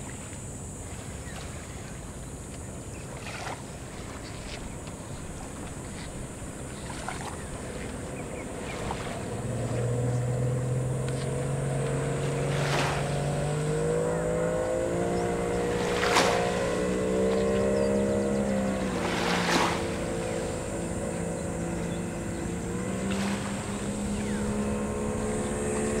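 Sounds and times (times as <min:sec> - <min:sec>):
boat motor humming: 0:00.0 - 0:26.0
wind and water noise: 0:00.0 - 0:26.0.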